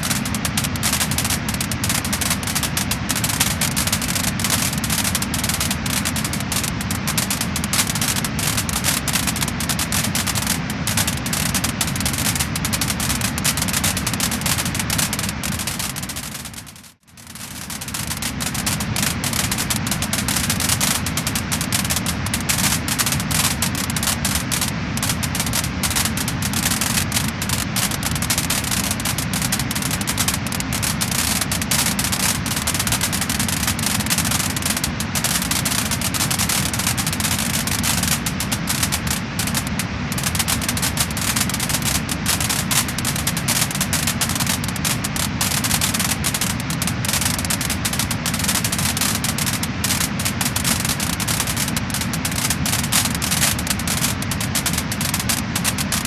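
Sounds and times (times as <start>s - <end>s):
steady rushing noise: 0.0s - 56.0s
wood fire crackling and popping: 0.0s - 56.0s.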